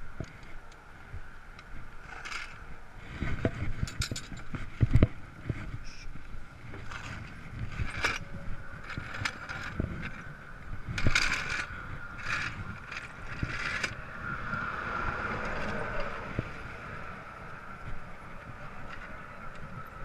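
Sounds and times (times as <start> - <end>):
traffic rumble: 0.0 - 20.0
wind noise: 0.0 - 20.0.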